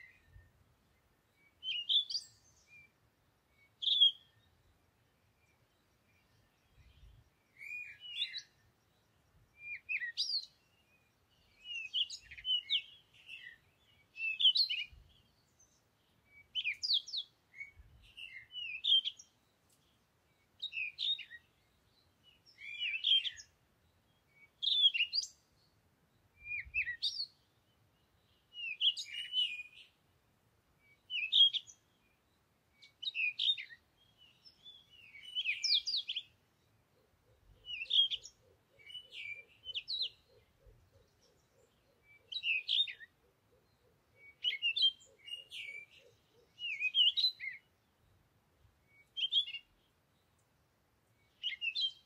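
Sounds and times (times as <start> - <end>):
bird song chirping: 0.0 - 52.0.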